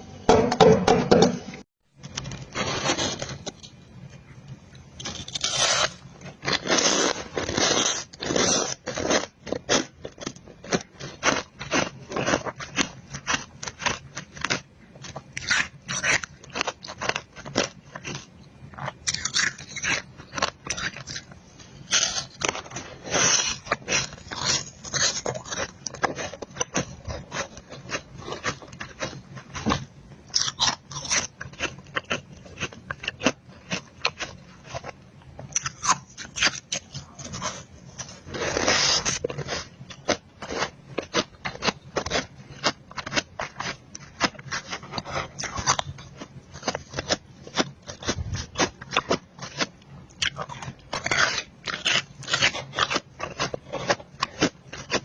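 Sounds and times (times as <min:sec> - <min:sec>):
ice crunching being chewed: 0:05.0 - 0:55.0.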